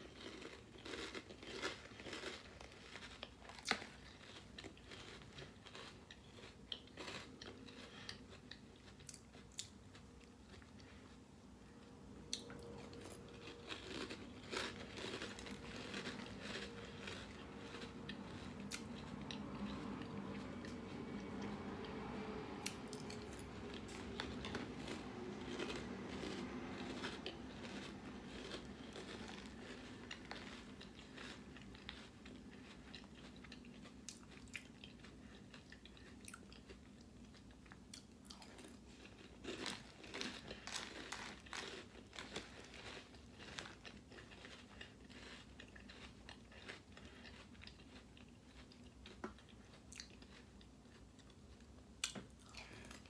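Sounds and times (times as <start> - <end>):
person chewing crunchy cereal: 0.0 - 11.4, 12.3 - 53.0.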